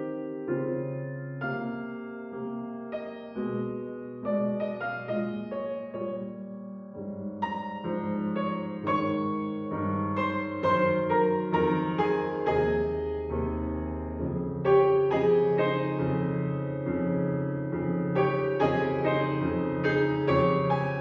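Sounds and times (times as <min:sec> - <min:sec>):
solo piano piece: 0:00.0 - 0:21.0.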